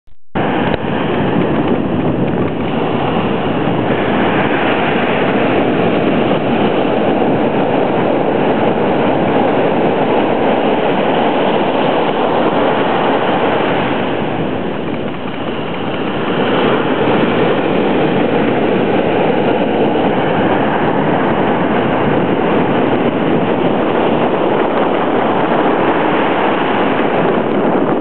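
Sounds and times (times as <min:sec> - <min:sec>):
ocean waves breaking: 0:00.4 - 0:28.0.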